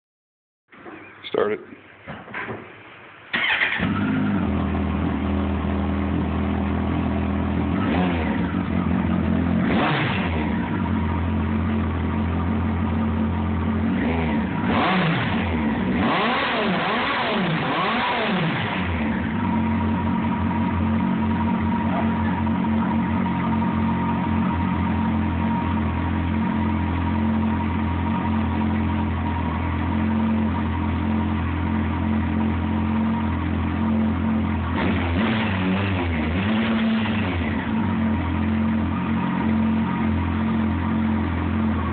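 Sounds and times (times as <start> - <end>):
motorcycle engine starting and revving: 3.3 - 41.9.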